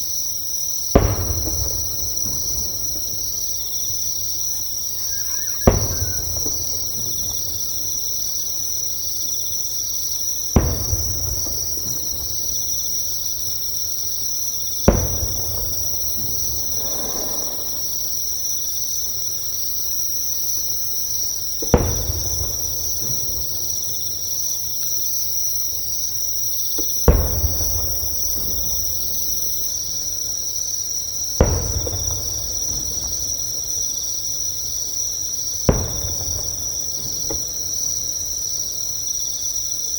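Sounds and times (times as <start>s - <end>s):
insects chorus: 0.0s - 39.9s
distant fireworks booming: 0.8s - 39.7s.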